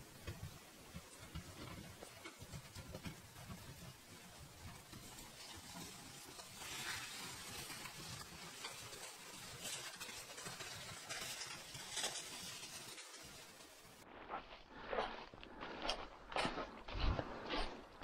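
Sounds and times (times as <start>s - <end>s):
soft rustles: 0.1s - 17.9s.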